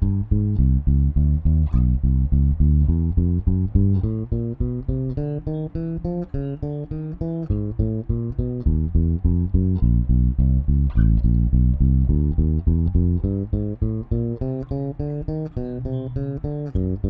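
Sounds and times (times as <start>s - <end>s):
electric bass plucked notes: 0.0s - 17.0s.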